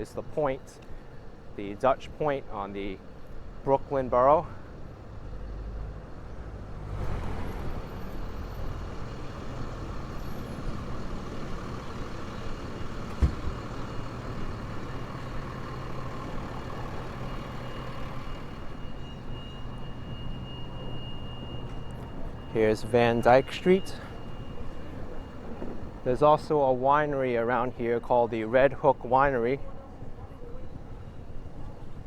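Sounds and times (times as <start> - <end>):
street traffic: 0.0 - 32.0
vehicle engine running: 4.6 - 32.0.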